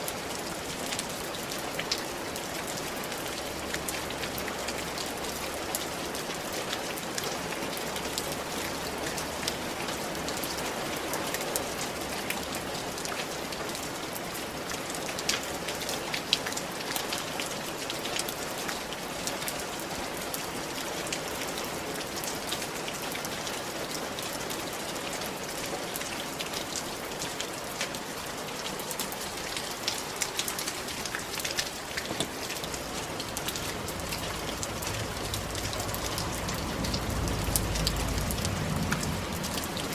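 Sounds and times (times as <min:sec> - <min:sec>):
rain on a tiled roof: 0:00.0 - 0:39.9.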